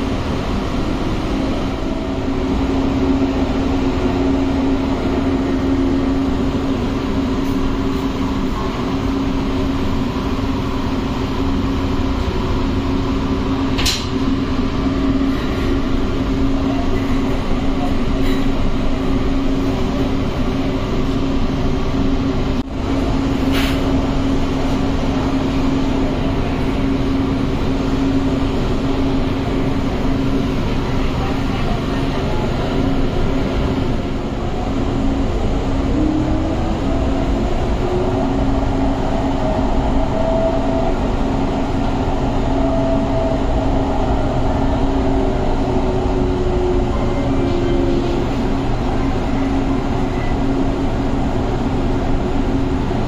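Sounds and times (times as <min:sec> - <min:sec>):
train carriage rumbling on track: 0:00.0 - 0:53.0.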